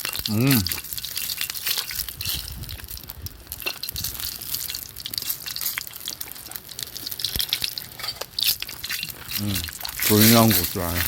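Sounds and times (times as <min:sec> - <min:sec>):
campfire crackling: 0:00.0 - 0:11.0
meat sizzling on a grill: 0:00.0 - 0:11.0.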